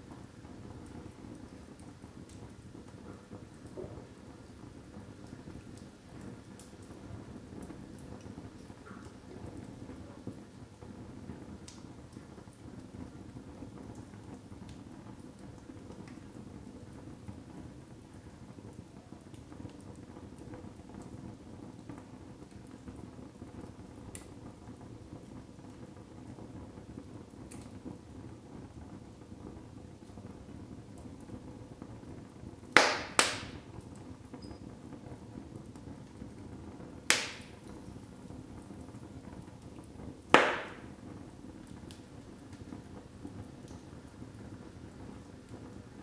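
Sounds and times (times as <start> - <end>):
fire burning: 0.0 - 46.0
wood crackling and popping: 0.0 - 46.0.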